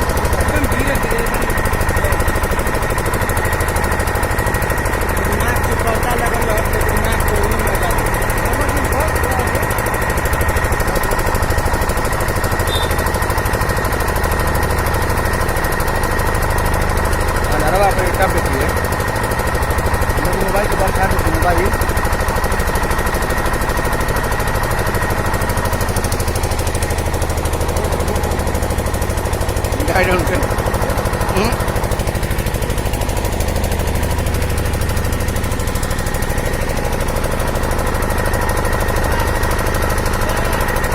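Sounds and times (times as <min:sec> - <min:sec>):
engine knocking steadily: 0:00.0 - 0:40.9.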